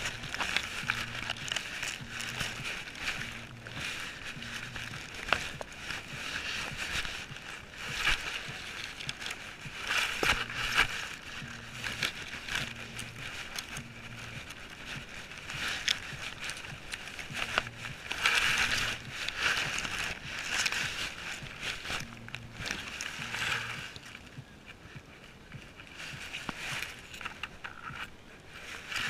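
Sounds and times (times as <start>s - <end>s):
grass rustling against camera: 0.0s - 29.0s.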